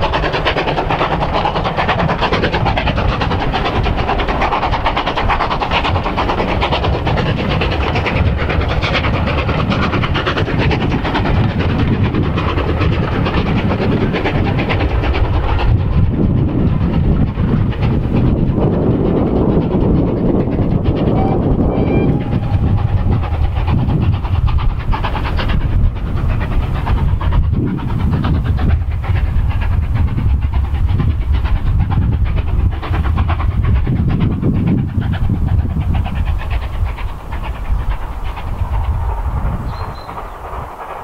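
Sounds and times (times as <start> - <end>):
steam exhaust beats: 0.0 - 41.0
train wheels on rails: 0.0 - 41.0.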